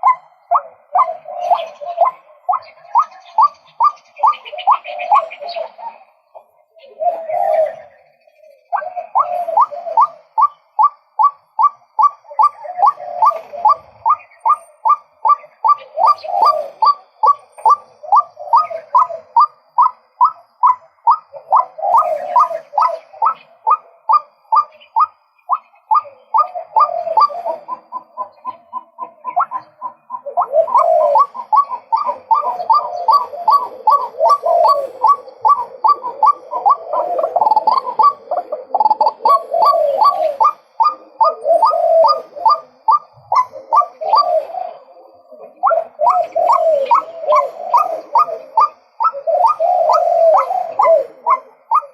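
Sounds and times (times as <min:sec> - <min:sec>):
low croaking notes: 0:00.0 - 0:51.9.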